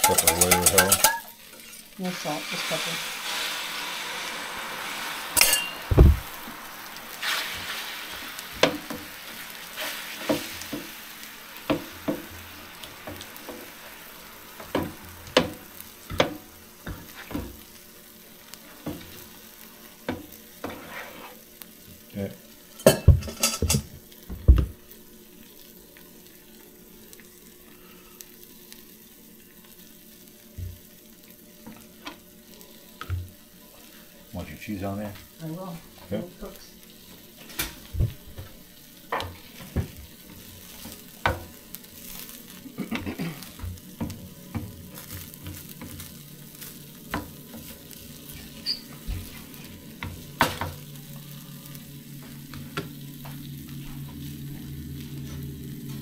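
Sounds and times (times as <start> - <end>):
food sizzling on griddle: 0.0 - 56.0.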